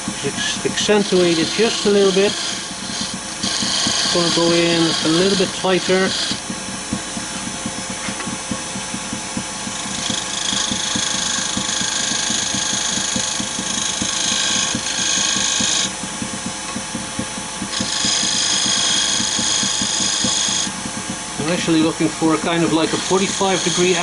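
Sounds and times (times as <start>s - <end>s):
wood lathe running: 0.0s - 24.0s
turning tool cutting wood: 0.1s - 24.0s.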